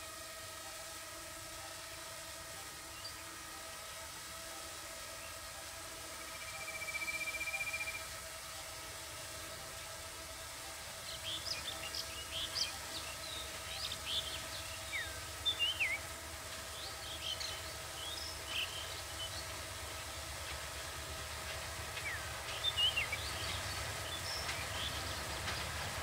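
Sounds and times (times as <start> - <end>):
distant locomotive rumble: 0.0 - 26.0.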